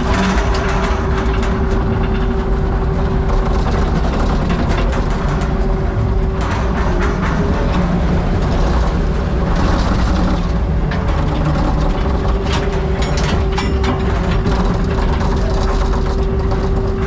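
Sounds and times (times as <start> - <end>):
constant hum: 0.0 - 17.0
heavy diesel engine running: 0.0 - 17.0
metallic clanks and rattles: 0.0 - 17.0.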